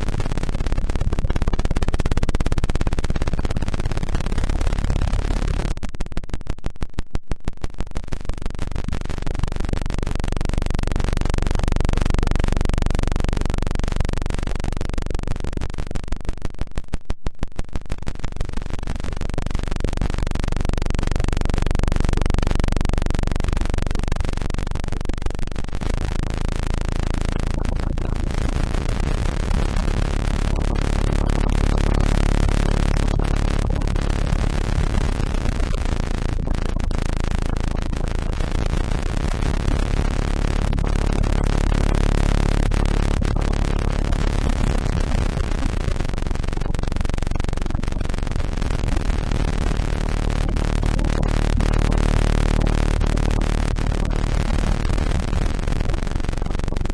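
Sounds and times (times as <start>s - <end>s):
fast electronic pulsing: 0.0s - 56.9s
low electronic hums: 0.0s - 56.9s.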